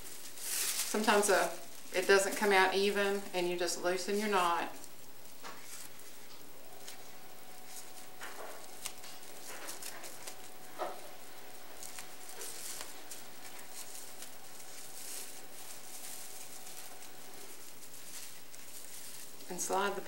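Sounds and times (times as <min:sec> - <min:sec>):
plastic yarn rustling and crinkling: 0:00.0 - 0:20.0.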